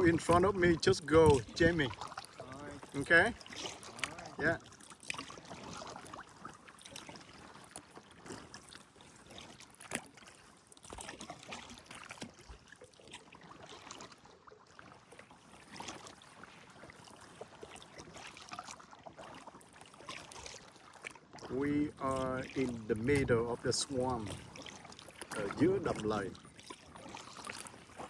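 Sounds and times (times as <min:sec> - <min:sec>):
paddle splashing in water: 0:00.0 - 0:28.0.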